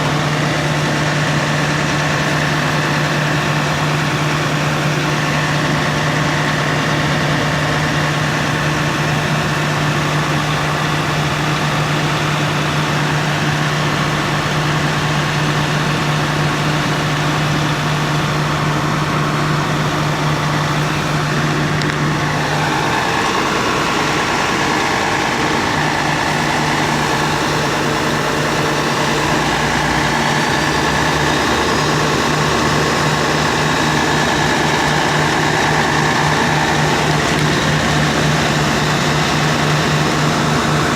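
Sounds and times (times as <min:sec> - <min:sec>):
fire truck engine running: 0:00.0 - 0:40.9.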